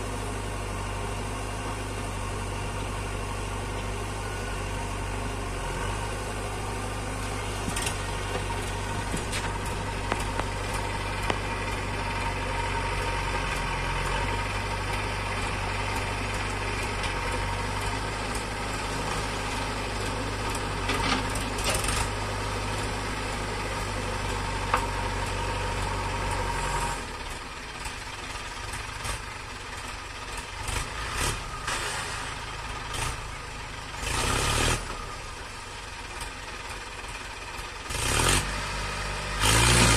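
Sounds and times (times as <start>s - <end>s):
diesel engines idling: 0.0s - 39.9s.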